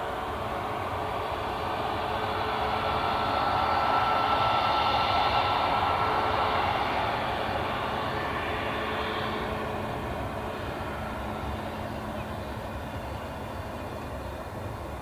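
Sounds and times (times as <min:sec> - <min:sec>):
jet airliner engines running: 0:00.0 - 0:15.0.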